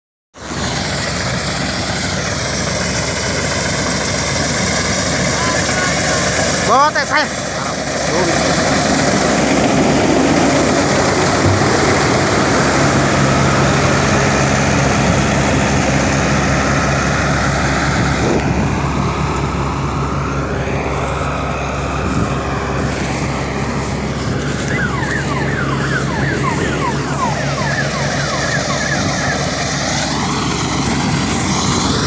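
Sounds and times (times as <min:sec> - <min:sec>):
combine harvester engine running: 0:00.4 - 0:32.0.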